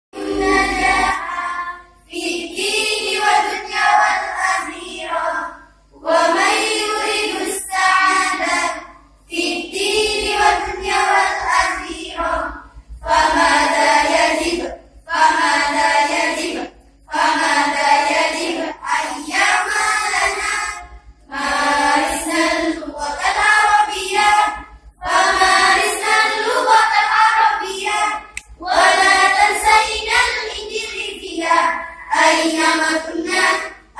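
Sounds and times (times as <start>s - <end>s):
girls singing as a group: 0.2s - 33.9s.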